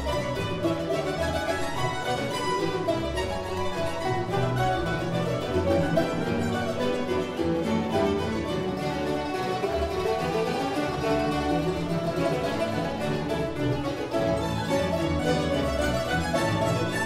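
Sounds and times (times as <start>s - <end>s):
mandolin orchestra playing: 0.0s - 17.0s.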